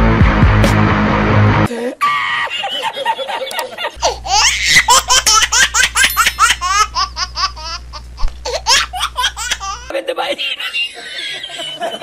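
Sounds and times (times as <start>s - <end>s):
high-pitched laughing: 1.7s - 12.0s.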